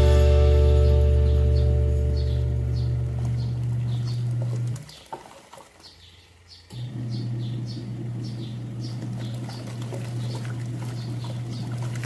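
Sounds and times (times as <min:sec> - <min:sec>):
washing machine motor hum: 0:00.0 - 0:04.9, 0:06.7 - 0:12.0
small bird chirping: 0:00.0 - 0:05.2, 0:05.8 - 0:11.8.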